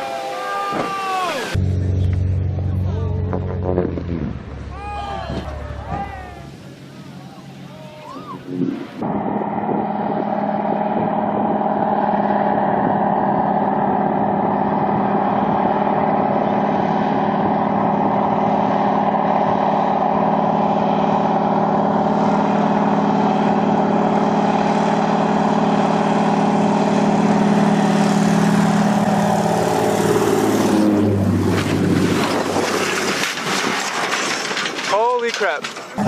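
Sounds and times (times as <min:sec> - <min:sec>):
engine droning steadily: 0:01.4 - 0:36.0.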